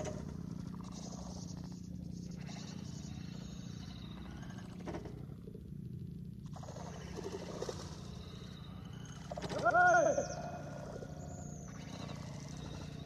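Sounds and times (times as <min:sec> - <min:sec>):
faint higher animal calls: 0:00.0 - 0:05.4, 0:06.4 - 0:13.0
droning chorus of wild animals: 0:00.0 - 0:13.0.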